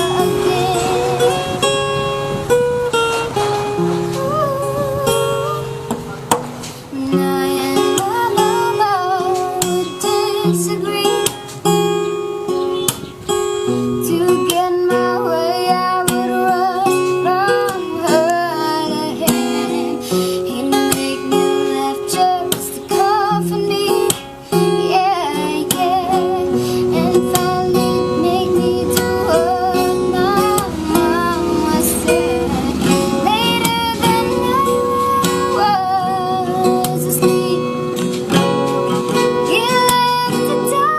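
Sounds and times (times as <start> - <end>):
child singing: 0.0 - 1.7, 4.1 - 5.7, 6.9 - 11.7, 14.0 - 38.4, 39.4 - 40.9
plucked acoustic guitar: 0.0 - 40.9.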